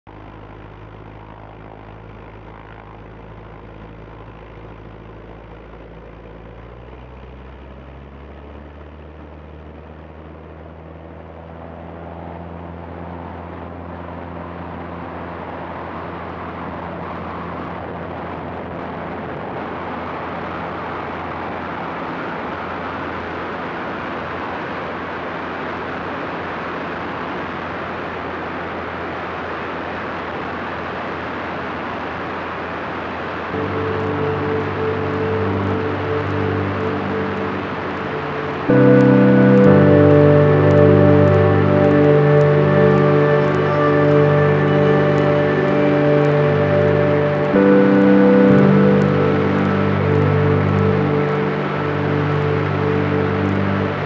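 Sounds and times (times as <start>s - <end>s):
aircraft engine and propeller: 0.1s - 46.8s.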